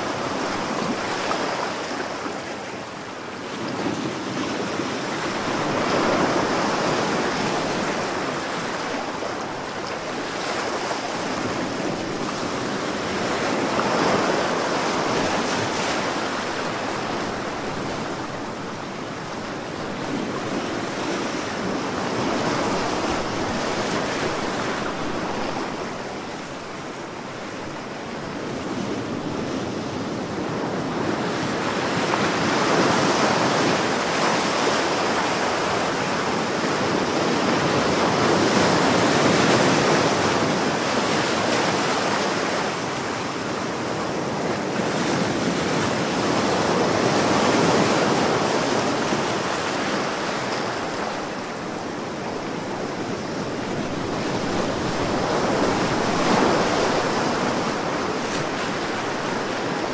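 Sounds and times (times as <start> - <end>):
waves breaking: 0.0 - 59.9.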